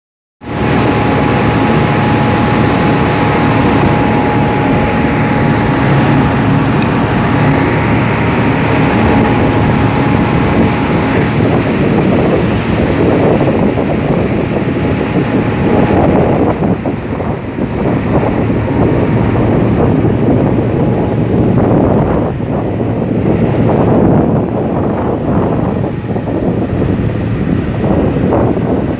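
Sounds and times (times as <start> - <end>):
thin steady whine: 0.4 - 26.8
sea washing against hull: 0.4 - 28.9
ship engine droning: 0.4 - 28.9
wind buffeting microphone: 0.4 - 28.9.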